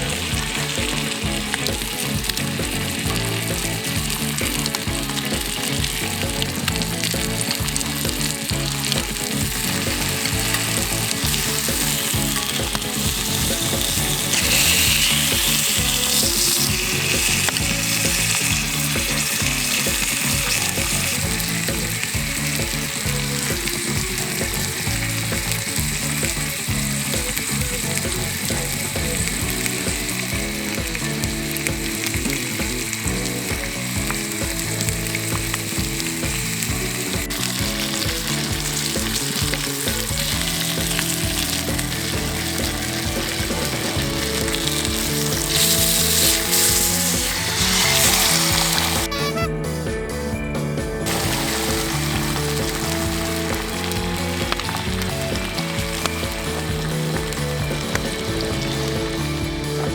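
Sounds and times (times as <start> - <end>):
food sizzling in a pan: 0.0 - 49.5, 51.0 - 59.9.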